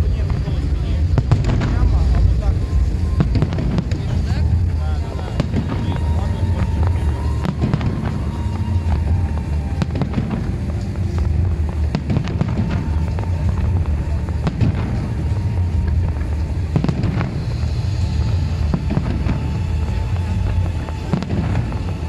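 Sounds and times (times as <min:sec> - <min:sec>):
fireworks bangs and crackles: 0:00.0 - 0:22.0
low rumble: 0:00.0 - 0:22.0.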